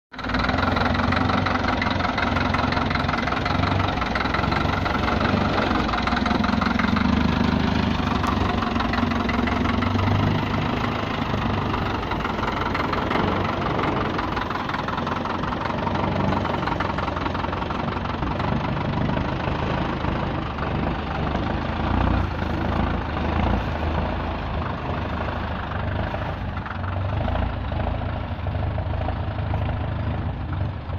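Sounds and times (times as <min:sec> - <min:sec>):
truck diesel engine rumbling: 0:00.1 - 0:30.9.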